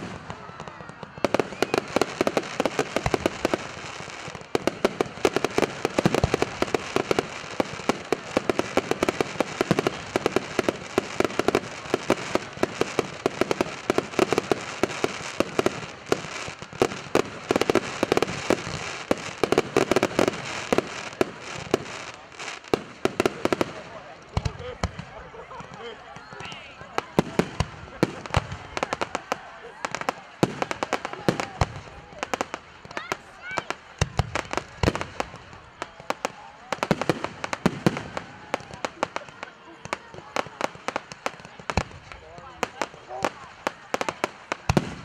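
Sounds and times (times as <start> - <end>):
fireworks bursting and crackling: 0.0 - 45.0.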